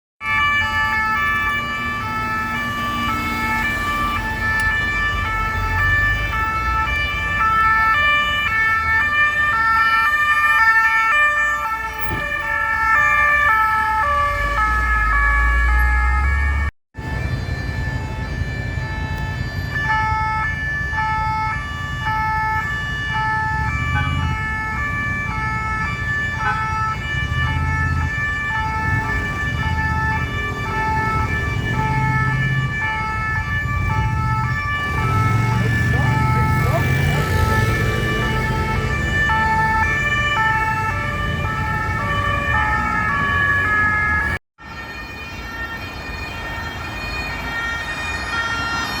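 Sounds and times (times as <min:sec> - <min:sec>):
traffic rumble: 0:00.2 - 0:49.0
two-tone police sirens: 0:00.2 - 0:49.0.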